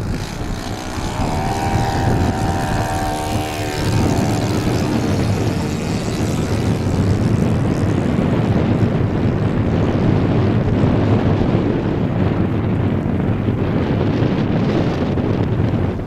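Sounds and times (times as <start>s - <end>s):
model plane engine drone: 0.0s - 16.0s
wind buffeting microphone: 0.0s - 16.0s.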